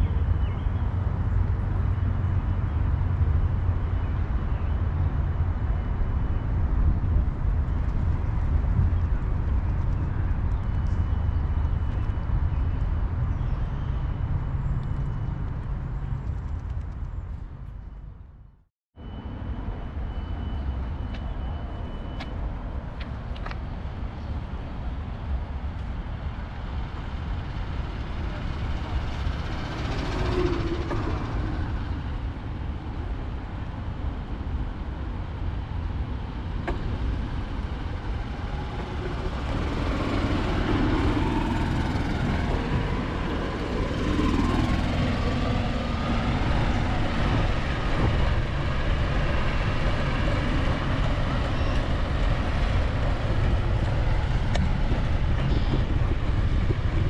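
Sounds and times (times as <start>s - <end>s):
low rumble of road traffic: 0.0s - 57.0s.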